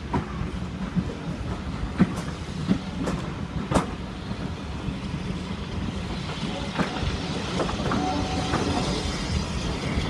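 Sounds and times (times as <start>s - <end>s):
train rumble: 0.0s - 10.0s.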